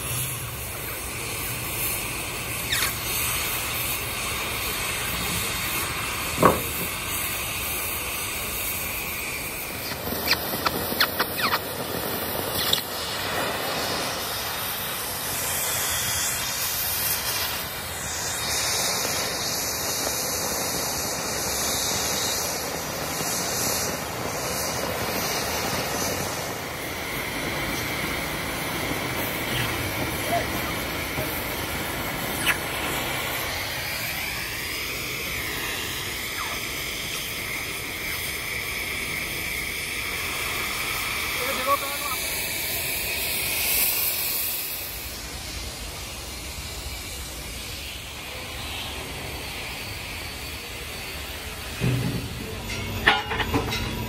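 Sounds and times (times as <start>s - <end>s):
cutting torch hissing: 0.0s - 54.0s.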